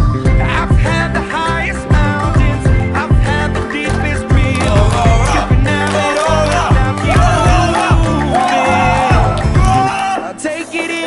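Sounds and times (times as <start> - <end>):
upbeat pop music with singing: 0.0 - 11.0.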